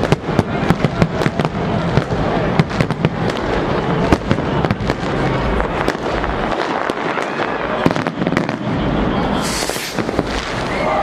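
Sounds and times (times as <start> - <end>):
distant explosions rumbling: 0.0 - 11.0
fireworks crackling and banging: 0.0 - 11.0.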